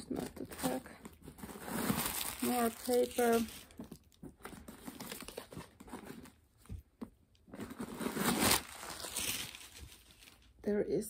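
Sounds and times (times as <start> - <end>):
packing paper rustling and crinkling: 0.0 - 6.8, 7.5 - 10.6.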